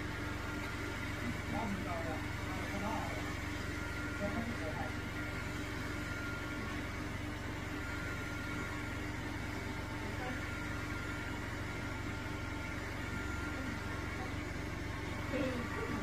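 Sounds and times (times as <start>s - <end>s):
robot vacuum motor hum: 0.0s - 16.0s.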